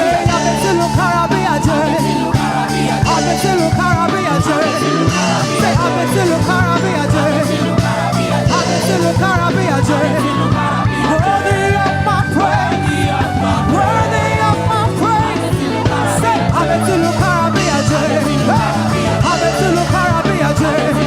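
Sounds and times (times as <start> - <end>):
band playing worship music: 0.0 - 21.0
voices singing: 0.0 - 21.0.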